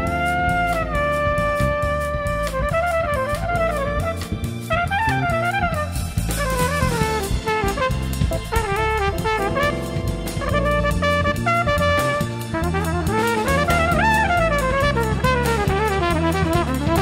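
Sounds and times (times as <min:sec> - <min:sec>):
drum kit groove: 0:00.0 - 0:17.0
electric bass guitar: 0:00.0 - 0:17.0
melodic lead line with sliding notes: 0:00.0 - 0:17.0.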